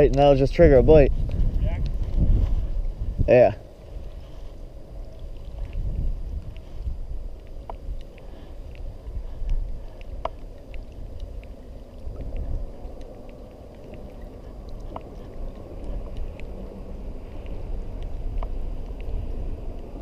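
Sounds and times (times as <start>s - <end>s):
wind rumbling on microphone: 0.0s - 20.0s
faint clicks: 3.8s - 20.0s.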